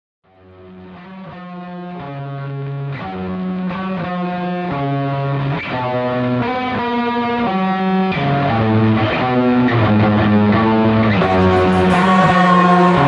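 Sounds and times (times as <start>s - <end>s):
slow guitar music: 0.3s - 13.0s.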